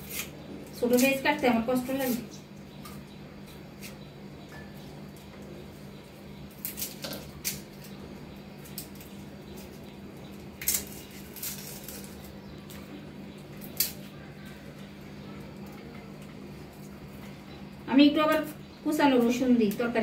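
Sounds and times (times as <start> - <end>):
onion skin crackling: 0.0 - 3.0, 6.4 - 20.0
steady low hum: 0.0 - 20.0.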